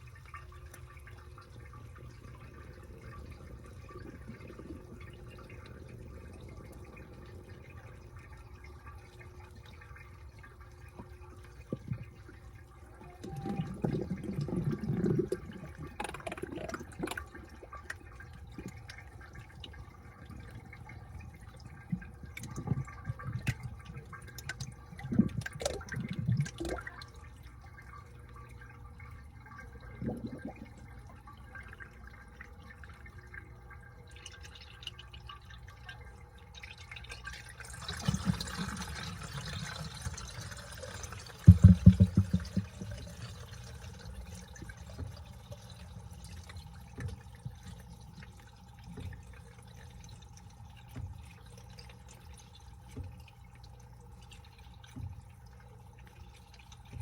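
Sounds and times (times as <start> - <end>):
washing machine hum: 0.0 - 57.0
water sloshing with laundry: 0.0 - 57.0.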